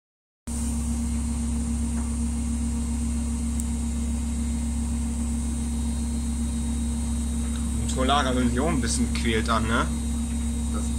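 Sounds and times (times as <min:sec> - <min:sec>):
washing machine spinning: 0:00.5 - 0:10.9.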